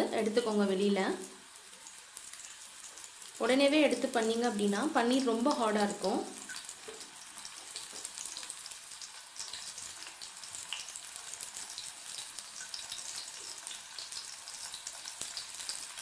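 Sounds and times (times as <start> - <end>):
cheese cubes sizzling in oil: 0.0 - 16.0.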